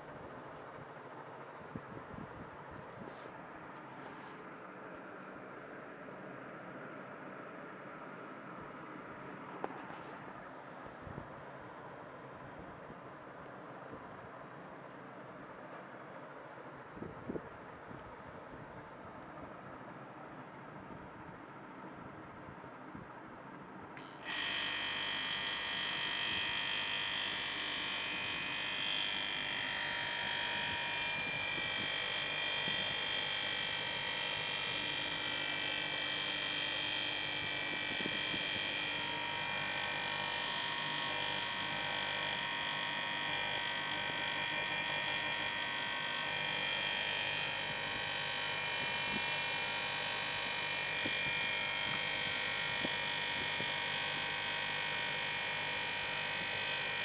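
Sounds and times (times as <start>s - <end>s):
compressor humming and whining: 0.0s - 57.0s.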